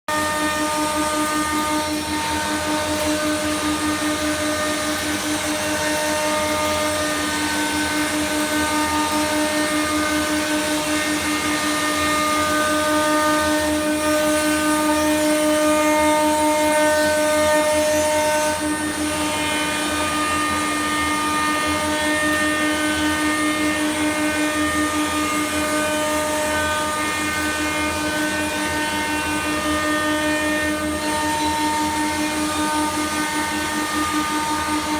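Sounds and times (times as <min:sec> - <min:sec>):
router spindle cutting wood: 0:00.1 - 0:34.9.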